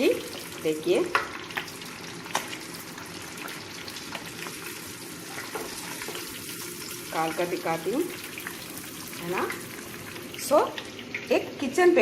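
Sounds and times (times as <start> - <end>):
oil popping and crackling: 0.0 - 11.8
fish frying in oil: 0.0 - 12.0.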